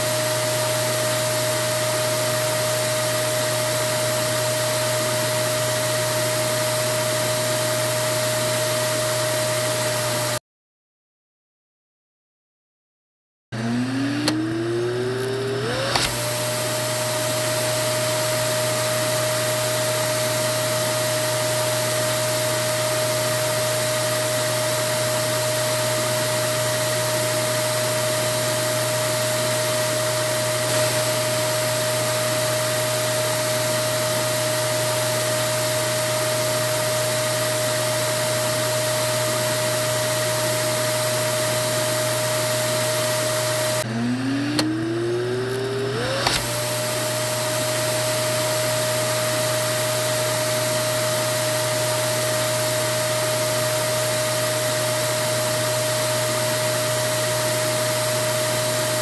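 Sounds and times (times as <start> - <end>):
vacuum cleaner motor whine: 0.0 - 10.4, 13.6 - 59.0.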